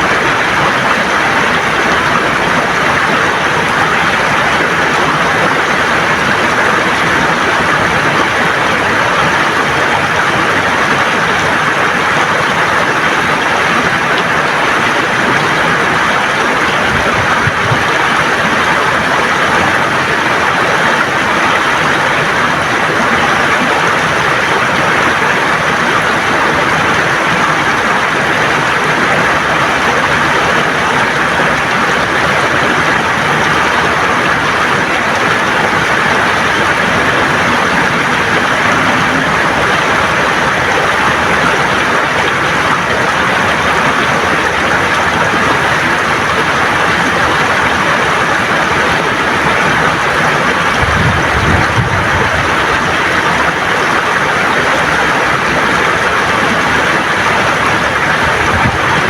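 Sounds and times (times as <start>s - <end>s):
river water gurgling over stones: 0.0s - 59.0s.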